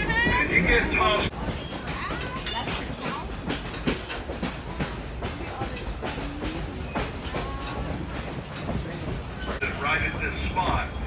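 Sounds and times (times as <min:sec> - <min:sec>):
train rumbling on tracks: 0:00.0 - 0:11.0
wheels clacking over rails: 0:00.0 - 0:11.0.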